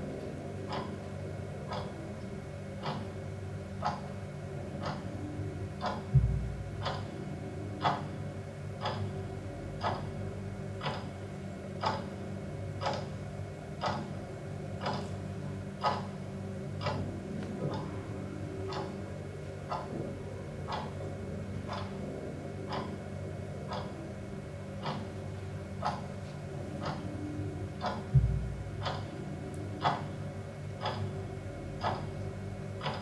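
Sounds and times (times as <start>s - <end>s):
clock ticking: 0.7s - 2.0s, 2.8s - 3.2s, 3.8s - 9.2s, 9.8s - 12.2s, 12.8s - 13.2s, 13.8s - 33.0s
low hum: 4.3s - 10.8s, 11.4s - 32.8s.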